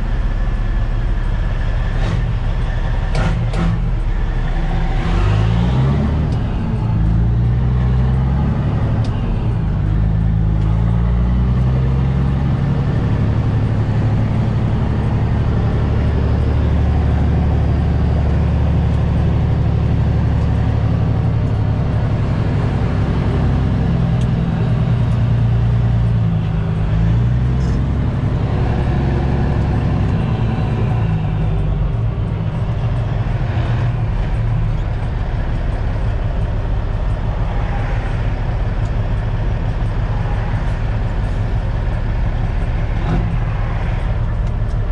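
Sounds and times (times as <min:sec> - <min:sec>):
diesel truck engine under load: 0:00.0 - 0:44.9.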